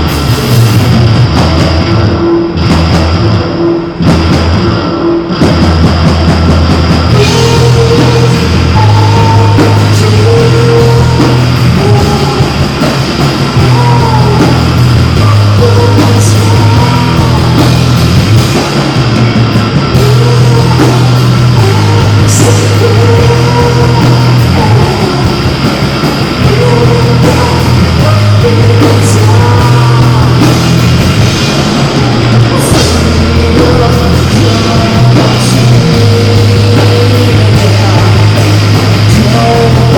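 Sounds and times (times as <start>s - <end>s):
bass riff: 0.0s - 39.9s
rock band playing: 0.0s - 39.9s.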